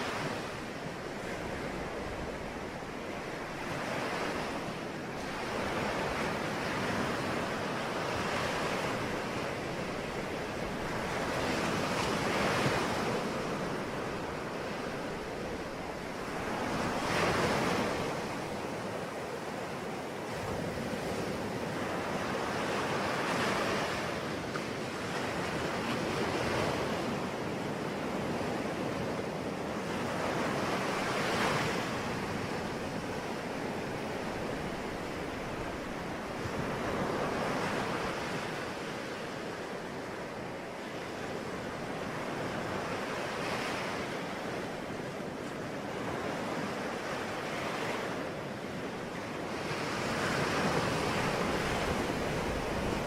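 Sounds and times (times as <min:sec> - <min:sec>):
ocean waves breaking on shore: 0:00.0 - 0:53.0.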